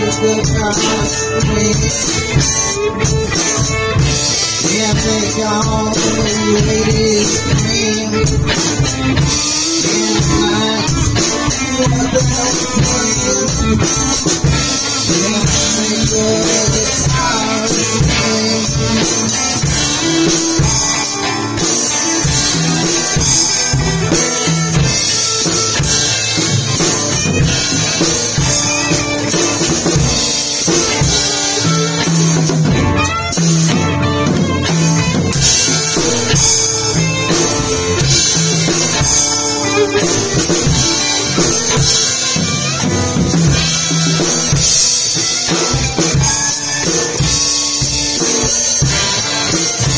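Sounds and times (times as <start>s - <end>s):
drum kit: 0.0s - 49.9s
electric guitars: 0.0s - 49.9s.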